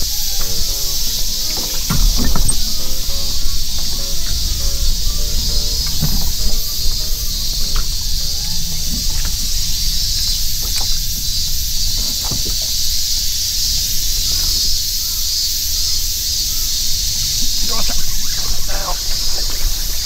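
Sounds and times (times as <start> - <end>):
cicadas chorus: 0.0 - 20.0.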